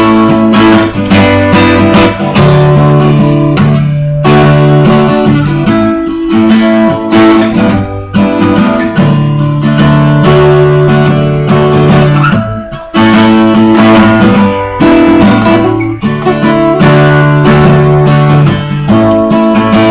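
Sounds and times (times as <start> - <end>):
acoustic guitar strumming chords: 0.0 - 19.9.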